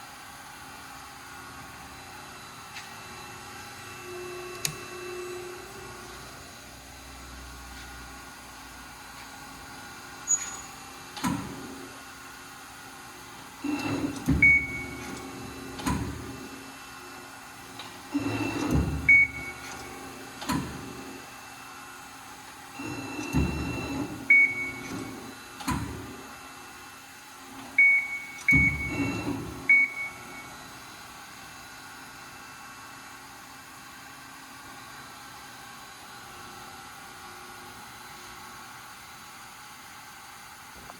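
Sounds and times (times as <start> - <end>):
steady machine hum: 0.0 - 39.8.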